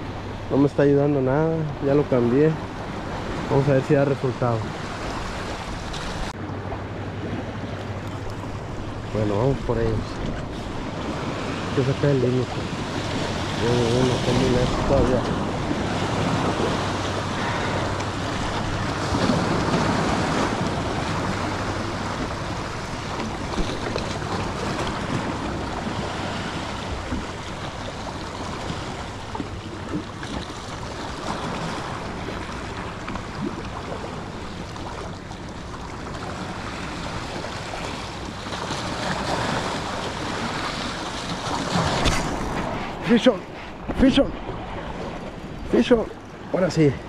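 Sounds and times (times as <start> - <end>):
ocean surf breaking on stone: 8.4 - 47.0.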